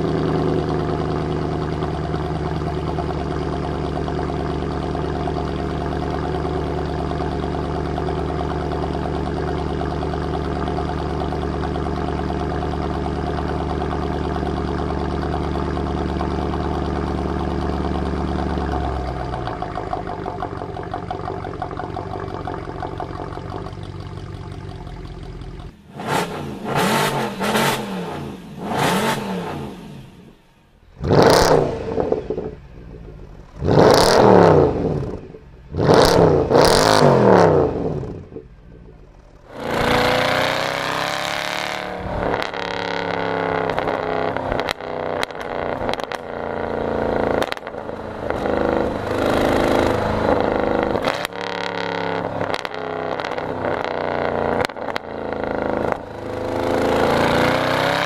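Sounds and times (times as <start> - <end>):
car engine revving: 0.0 - 58.0
exhaust cracks: 0.0 - 58.0.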